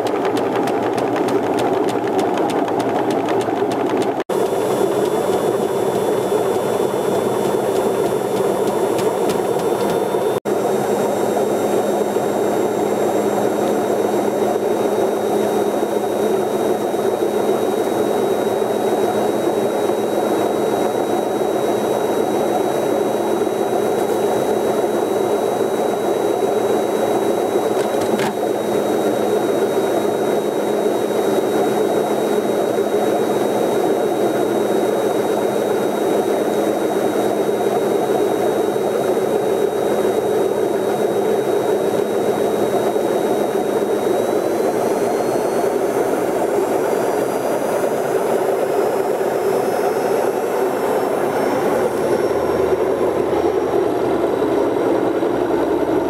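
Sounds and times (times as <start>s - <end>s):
washing machine whirring: 0.0s - 56.0s.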